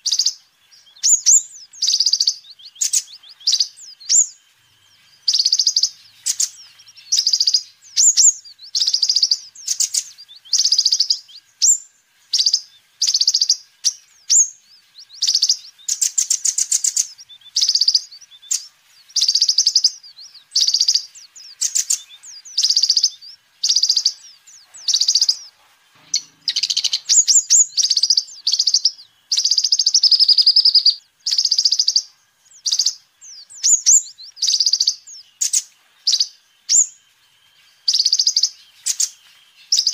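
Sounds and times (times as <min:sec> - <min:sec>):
sunbird singing buzzy trills: 0:00.0 - 0:39.9.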